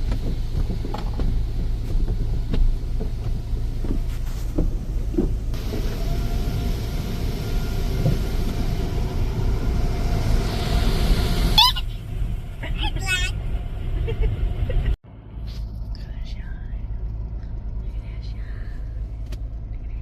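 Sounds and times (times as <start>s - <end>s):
car wash machinery rumble: 0.0s - 20.0s.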